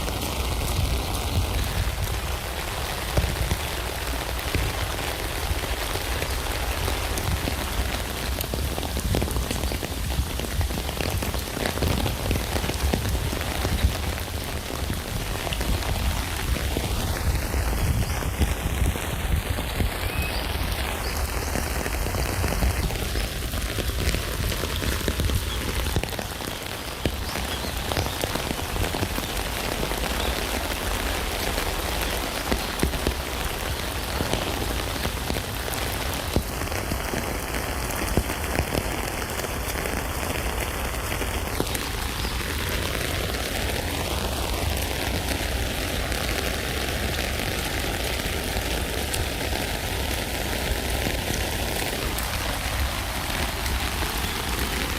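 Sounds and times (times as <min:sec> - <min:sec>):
rain patter on a tent: 0:00.0 - 0:54.9.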